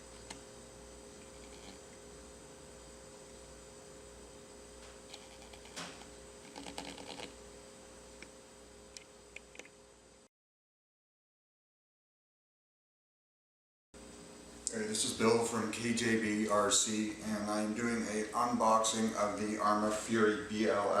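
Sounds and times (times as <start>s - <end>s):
electrical hum: 0.0s - 10.3s, 14.0s - 21.0s.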